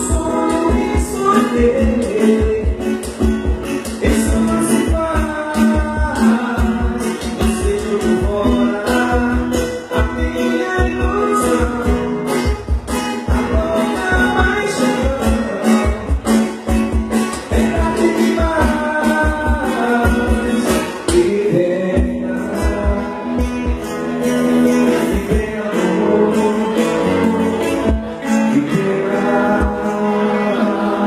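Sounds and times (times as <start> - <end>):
person singing: 0.0 - 3.2, 3.8 - 16.7, 17.3 - 31.0
strummed guitar: 0.0 - 31.0.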